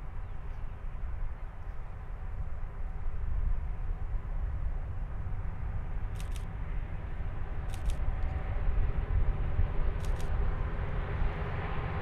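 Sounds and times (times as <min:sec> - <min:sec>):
diesel locomotive rumble: 0:00.0 - 0:12.0.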